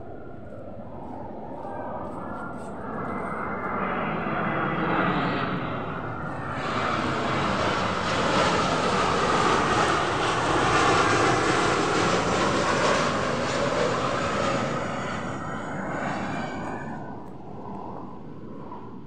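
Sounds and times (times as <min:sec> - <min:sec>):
jet airliner passing overhead: 0:00.0 - 0:19.0.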